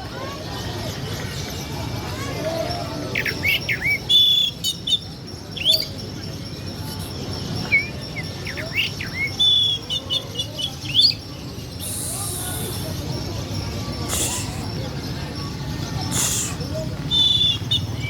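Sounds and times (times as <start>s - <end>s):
songbird singing: 3.1s - 18.0s.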